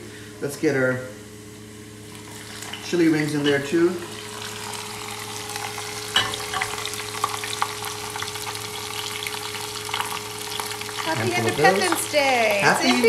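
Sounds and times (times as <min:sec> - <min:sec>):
hot oil sizzling and crackling: 0:01.9 - 0:13.0.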